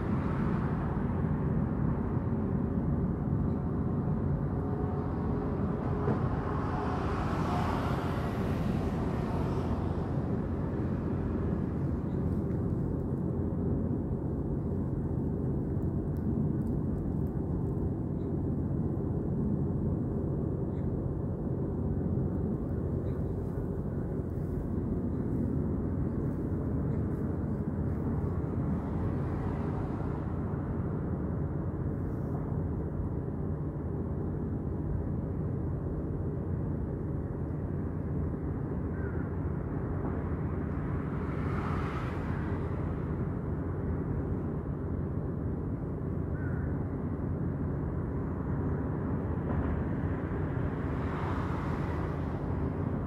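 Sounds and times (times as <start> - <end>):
outdoor background rumble: 0.0 - 53.0.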